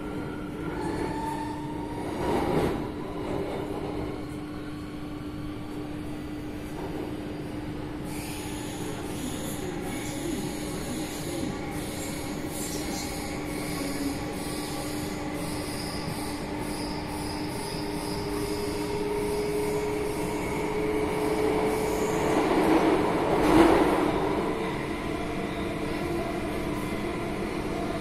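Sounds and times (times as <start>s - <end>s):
metro train rumble: 0.0s - 28.0s.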